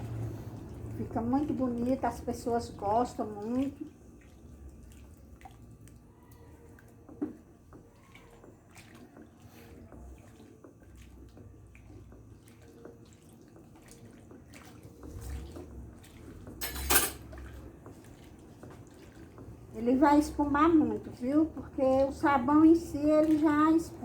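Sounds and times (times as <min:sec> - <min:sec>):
soap sloshing while stirred: 0:00.0 - 0:24.0.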